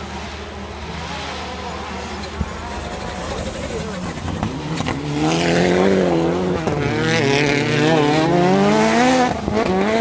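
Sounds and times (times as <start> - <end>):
racing car engine revving: 0.1 - 10.0.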